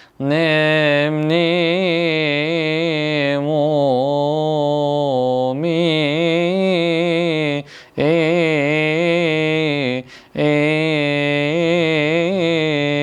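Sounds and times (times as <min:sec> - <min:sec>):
man chanting a hymn solo: 0:00.0 - 0:13.0.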